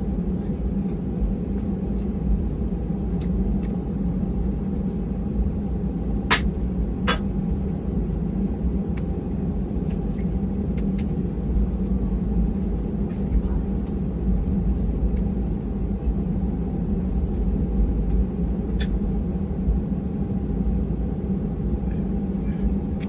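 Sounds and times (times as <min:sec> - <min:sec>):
aircraft cabin rumble and hum: 0:00.0 - 0:23.0.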